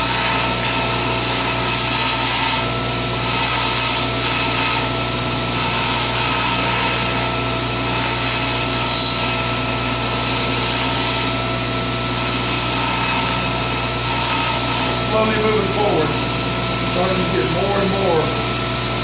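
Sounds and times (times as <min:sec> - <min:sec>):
table saw humming: 0:00.0 - 0:19.0
saw blade cutting wood: 0:00.1 - 0:18.8.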